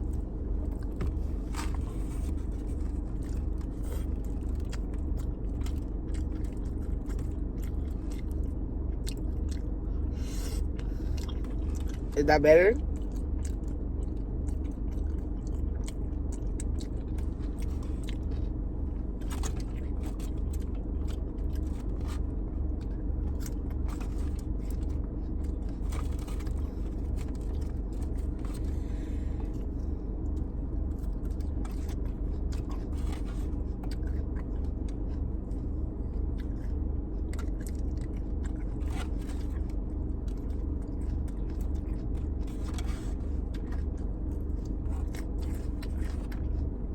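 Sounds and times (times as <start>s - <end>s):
chewing and biting: 0.0s - 12.2s, 12.8s - 46.9s
low rumble: 0.0s - 46.9s.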